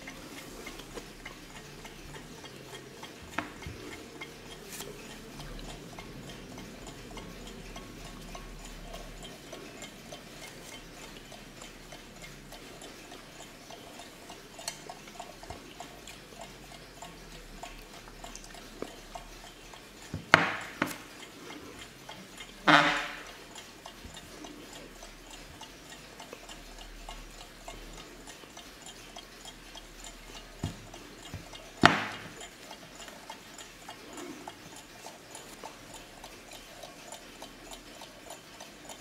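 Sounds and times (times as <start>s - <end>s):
alarm clock ticking: 0.0s - 39.0s.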